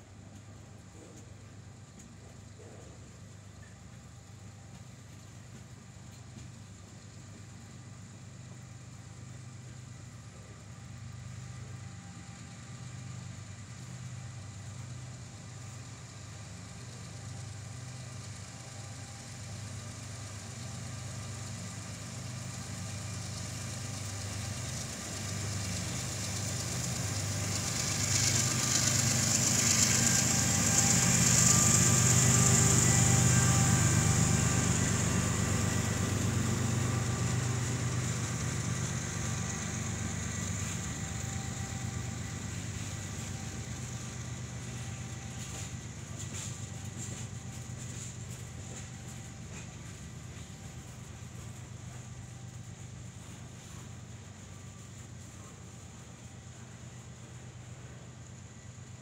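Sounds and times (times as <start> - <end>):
diesel locomotive engine hum: 0.0 - 59.0.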